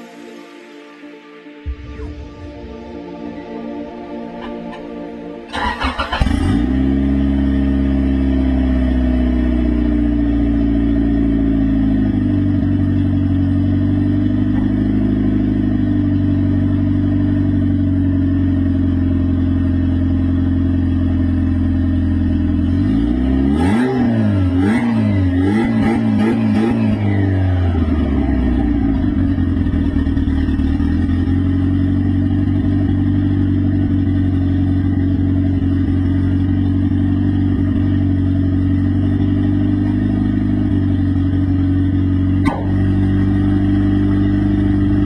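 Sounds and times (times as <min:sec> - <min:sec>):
car engine starting and idling: 0:01.6 - 0:45.0
car engine revving: 0:05.5 - 0:19.6, 0:20.3 - 0:45.0.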